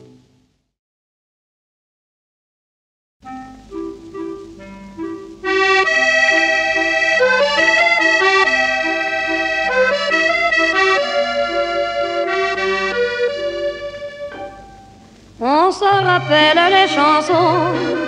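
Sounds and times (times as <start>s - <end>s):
instrumental chanson music: 3.2s - 18.0s.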